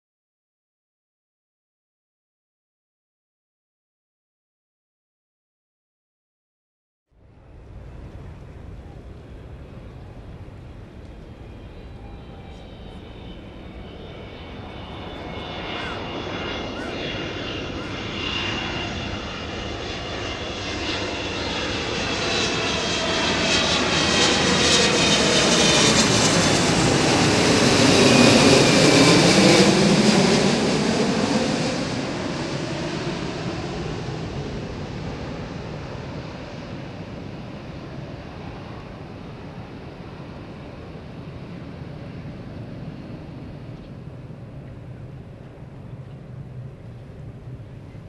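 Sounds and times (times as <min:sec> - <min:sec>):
jet engines whining and roaring: 0:07.4 - 0:48.0.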